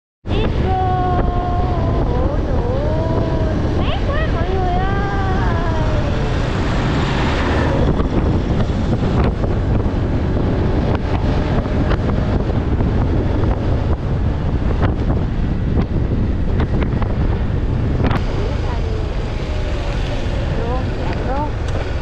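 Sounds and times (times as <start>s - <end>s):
wind rushing over microphone: 0.2s - 22.0s
motorcycle engine running: 0.8s - 22.0s.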